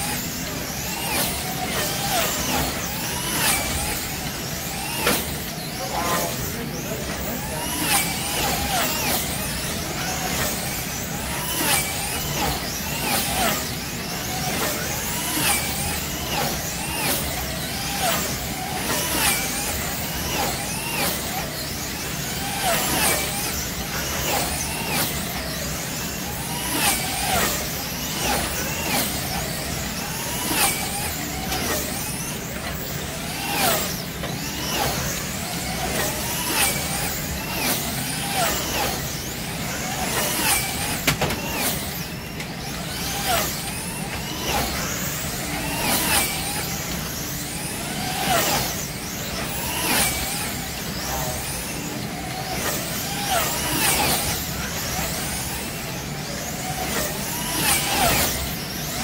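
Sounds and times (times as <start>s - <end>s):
slot car motors whining: 0.0s - 59.0s.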